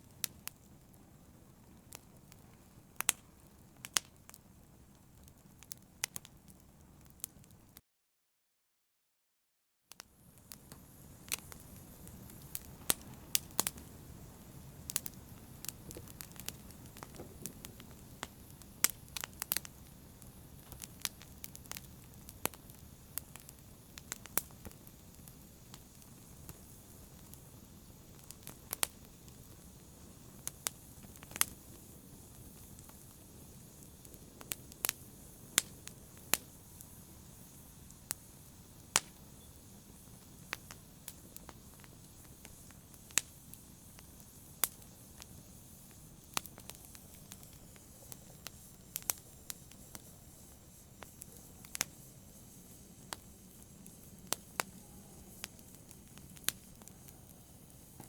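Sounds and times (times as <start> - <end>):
fire crackling and popping: 0.0 - 7.8, 9.9 - 58.0
low rumble of burning: 0.0 - 7.8, 10.0 - 58.0.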